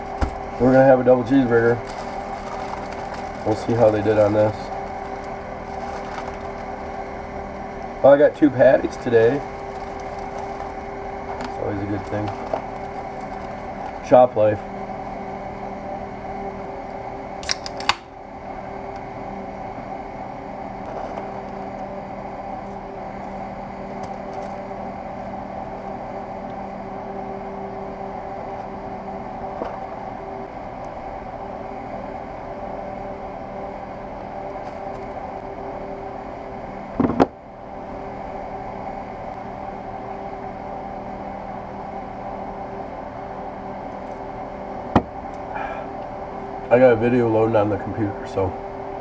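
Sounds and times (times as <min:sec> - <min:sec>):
machine mechanical hum: 0:00.0 - 0:49.0.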